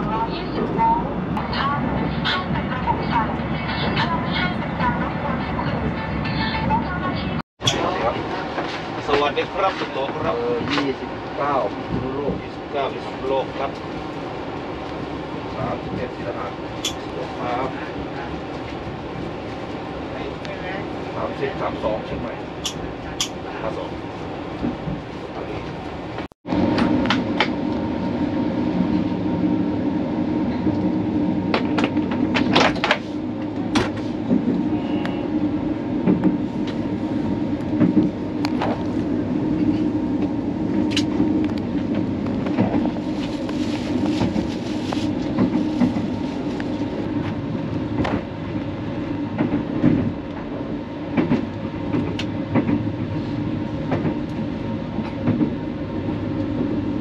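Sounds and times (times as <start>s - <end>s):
train rumbling and humming: 0.0s - 57.0s.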